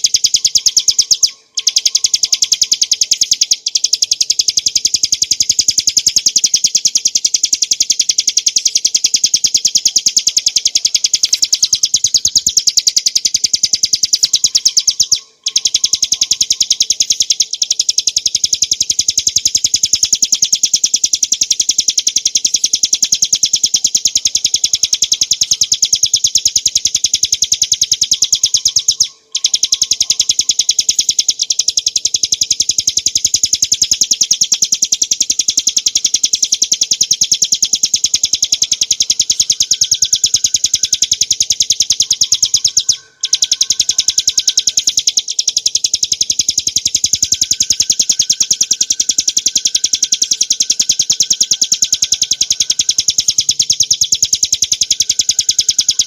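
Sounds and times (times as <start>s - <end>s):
small bird singing rapid high notes: 0.0s - 56.0s.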